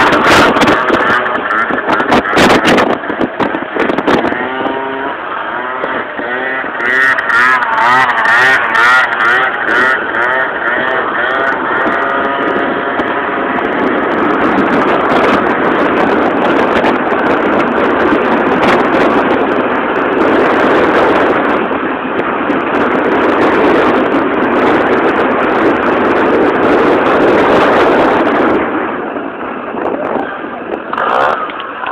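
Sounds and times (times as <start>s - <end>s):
motorbike engine running: 0.0s - 31.9s.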